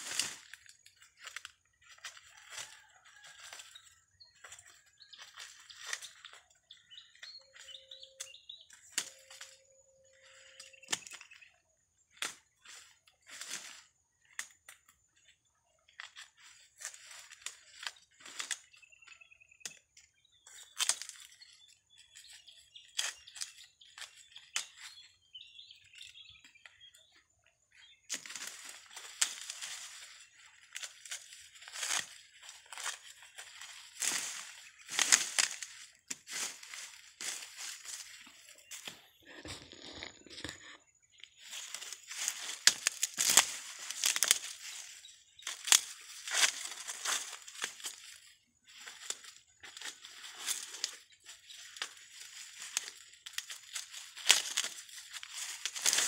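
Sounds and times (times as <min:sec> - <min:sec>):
corn husks crackling and snapping: 0:00.0 - 0:03.7, 0:04.4 - 0:25.1, 0:27.7 - 0:56.0.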